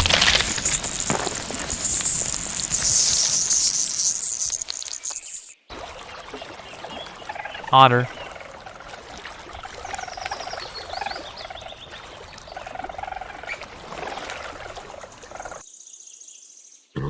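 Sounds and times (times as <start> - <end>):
faint watery hiss: 0.1 - 15.6.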